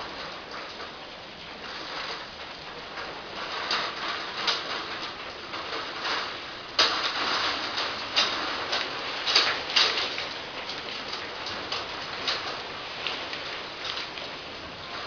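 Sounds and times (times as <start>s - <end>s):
heavy rain splashing: 0.0s - 15.0s.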